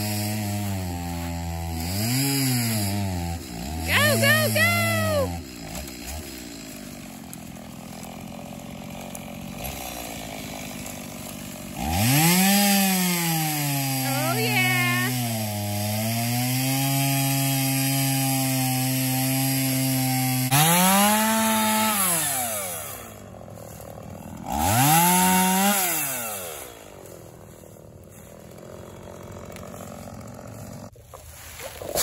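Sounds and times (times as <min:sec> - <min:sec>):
chainsaw revving and idling: 0:00.0 - 0:31.0.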